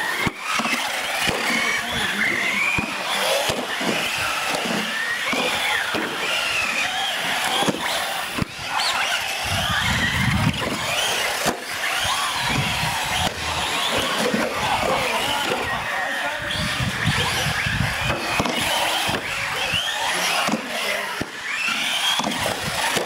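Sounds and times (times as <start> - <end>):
toy truck motors whining: 0.0 - 23.0
tyre noise on concrete: 0.0 - 23.0.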